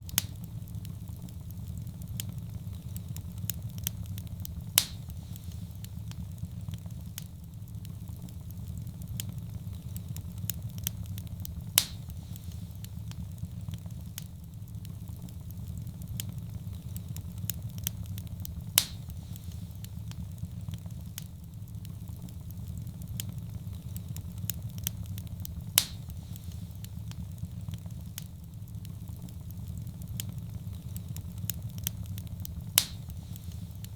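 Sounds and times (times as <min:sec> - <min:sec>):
fire crackling with low rumble: 0:00.0 - 0:33.9
loud sharp pops from fire: 0:00.0 - 0:33.9.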